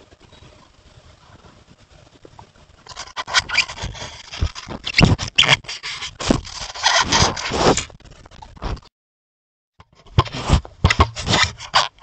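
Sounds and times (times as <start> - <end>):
fur scraping over camera: 0.6 - 8.9, 10.2 - 12.0.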